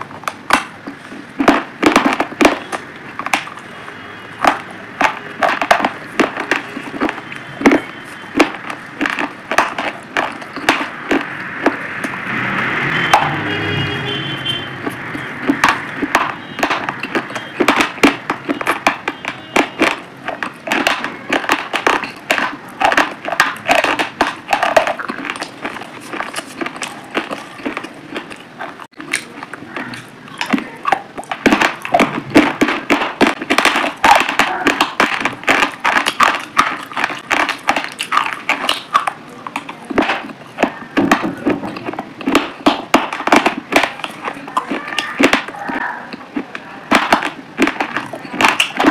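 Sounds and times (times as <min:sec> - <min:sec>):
crunching and chewing: 0:04.4 - 0:12.7, 0:14.4 - 0:48.9.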